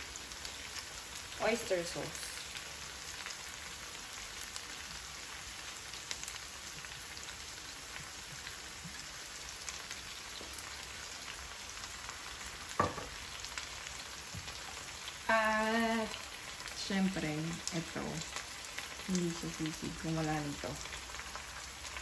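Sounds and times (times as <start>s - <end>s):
small crackles: 0.0s - 1.4s, 2.0s - 15.3s, 15.9s - 22.0s
food sizzling in a frying pan: 0.0s - 22.0s.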